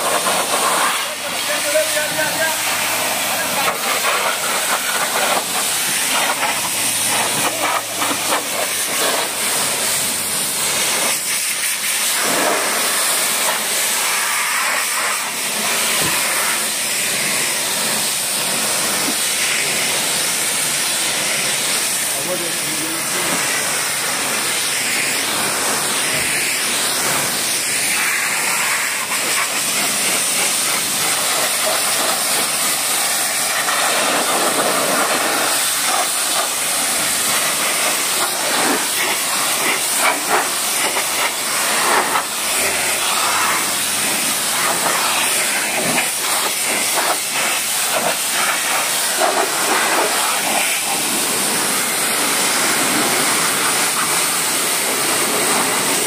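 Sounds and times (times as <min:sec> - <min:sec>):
pressure washer spraying water: 0:00.0 - 0:56.0.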